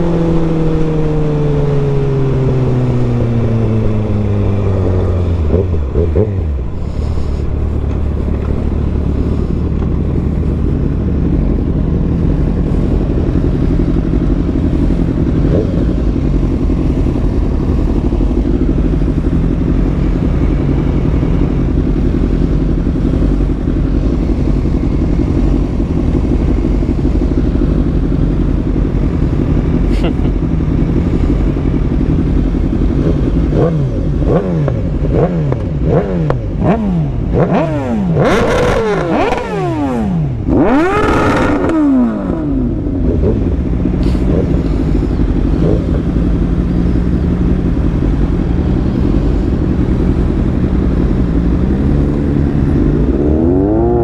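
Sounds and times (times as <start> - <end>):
motorcycle engines idling and revving: 0.0 - 54.0.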